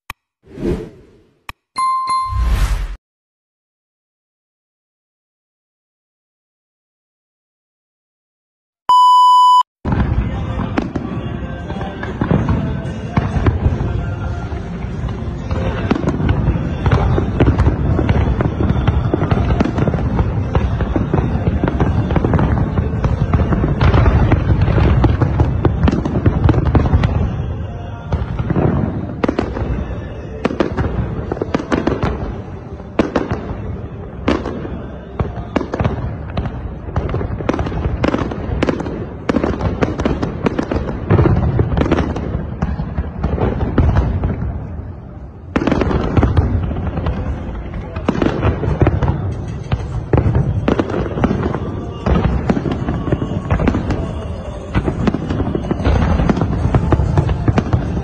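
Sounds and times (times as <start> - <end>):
fireworks bursting and crackling: 9.9 - 58.0.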